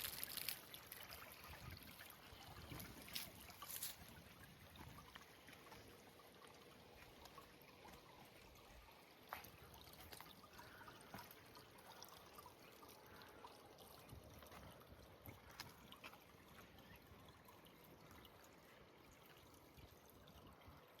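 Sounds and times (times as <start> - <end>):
water trickling: 0.0 - 21.0.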